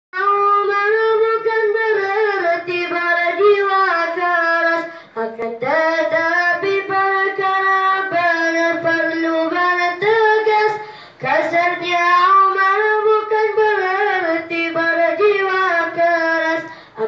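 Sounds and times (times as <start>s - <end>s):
boy singing solo: 0.2s - 17.0s.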